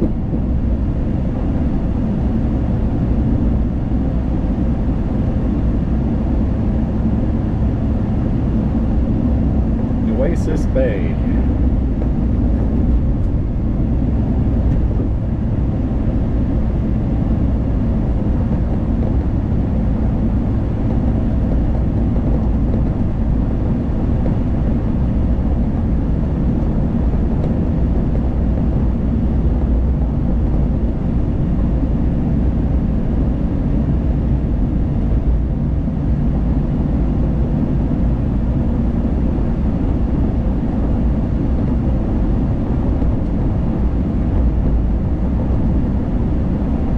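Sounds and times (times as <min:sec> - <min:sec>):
car road and engine noise: 0:00.0 - 0:46.9.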